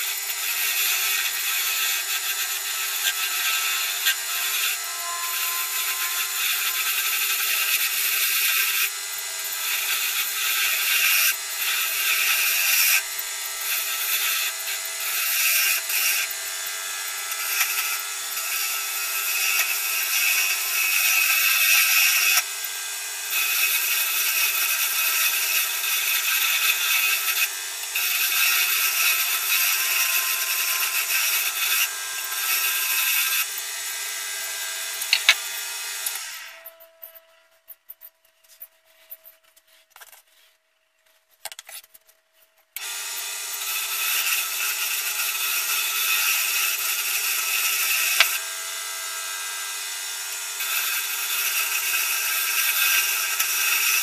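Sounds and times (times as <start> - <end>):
wood lathe running: 0.0 - 37.0, 42.8 - 54.0
chisel scraping spinning wood: 0.0 - 42.1, 42.8 - 48.4.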